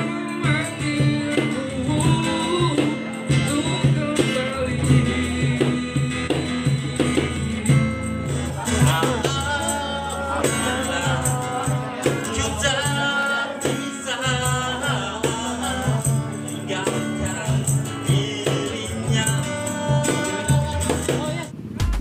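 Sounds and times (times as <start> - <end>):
hand percussion rattle: 0.0 - 21.5
person singing: 0.0 - 21.9
strummed acoustic guitar: 0.0 - 22.0.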